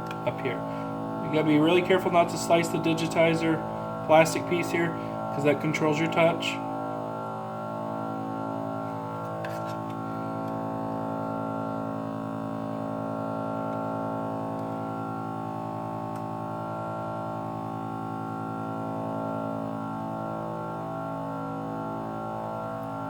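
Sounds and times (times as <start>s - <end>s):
synthesizer drone: 0.0s - 23.0s.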